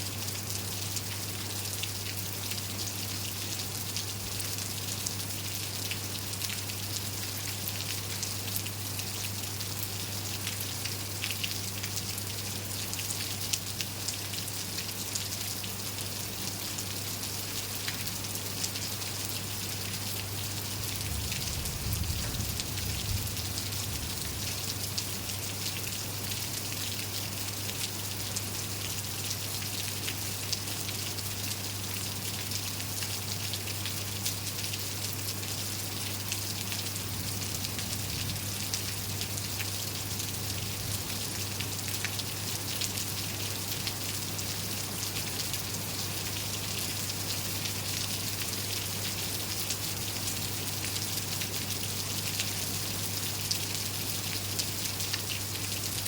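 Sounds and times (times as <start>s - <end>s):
rain drops ticking: 0.3s - 56.0s.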